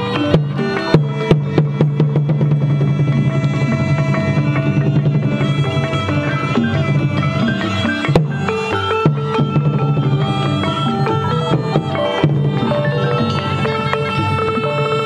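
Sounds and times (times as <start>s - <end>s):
drum strokes: 0.0s - 15.0s
melodic percussion line: 0.0s - 15.0s
reedy wind instrument notes: 0.0s - 15.0s.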